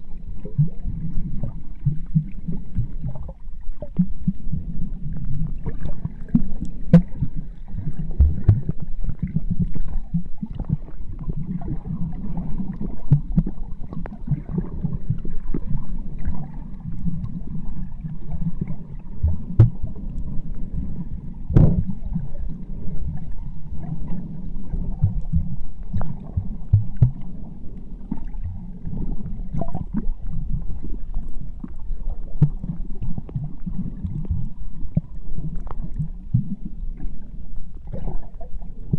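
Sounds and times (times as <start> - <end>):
underwater rumble of moving water: 0.0 - 38.9
small underwater clicks and knocks: 0.4 - 4.6, 5.2 - 20.8, 21.5 - 22.4, 24.9 - 28.6, 29.5 - 38.9.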